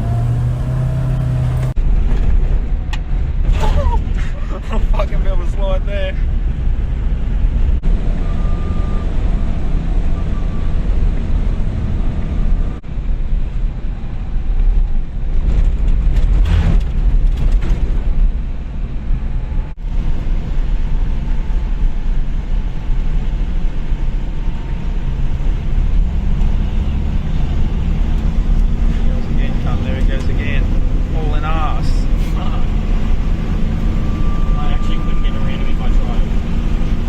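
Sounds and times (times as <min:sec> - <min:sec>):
truck driving on dirt track: 0:00.0 - 0:37.0.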